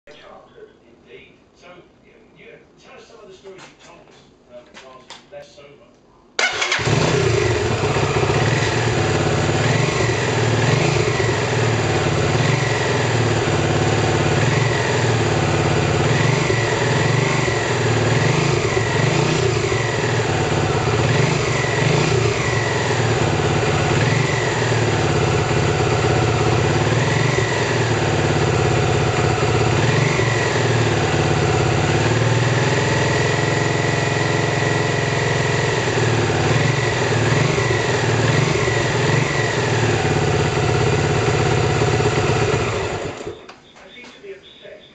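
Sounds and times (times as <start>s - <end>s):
motorcycle engine idling: 6.4s - 43.4s.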